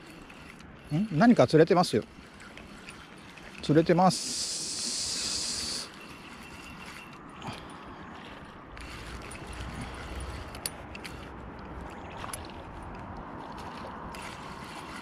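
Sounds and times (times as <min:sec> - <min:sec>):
fishing reel being cranked: 0:00.0 - 0:15.0.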